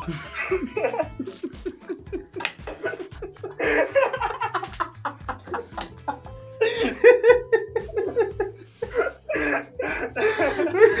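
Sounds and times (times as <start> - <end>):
men laughing: 0.0 - 11.0.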